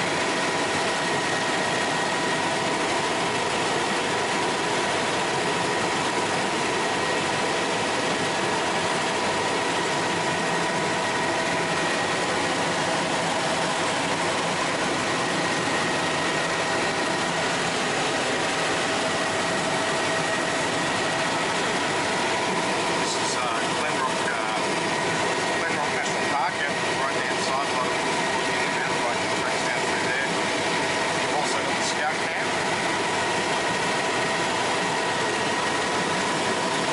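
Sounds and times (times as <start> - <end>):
helicopter cockpit whine and rush: 0.0 - 36.9.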